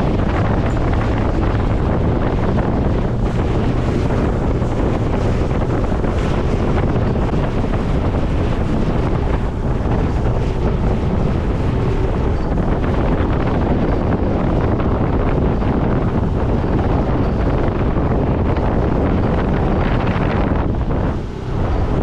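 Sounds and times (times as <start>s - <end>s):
boat moving through water: 0.0s - 22.0s
wind buffeting microphone: 0.0s - 22.0s.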